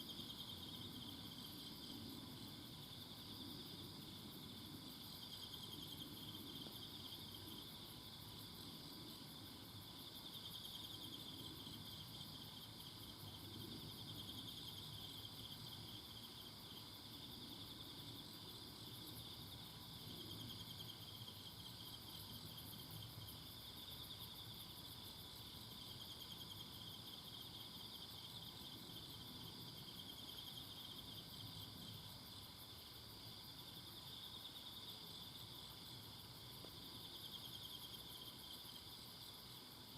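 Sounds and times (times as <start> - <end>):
crickets trilling: 0.0 - 39.9
faint low background noise: 0.0 - 39.9.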